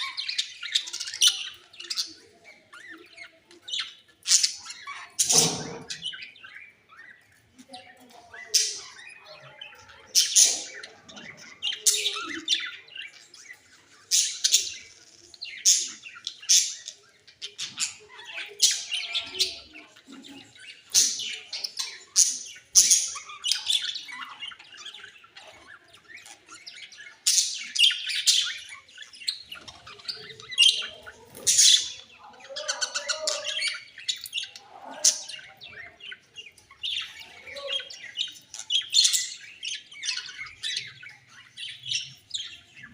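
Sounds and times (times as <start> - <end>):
budgerigars squawking and chattering: 0.0 - 42.9.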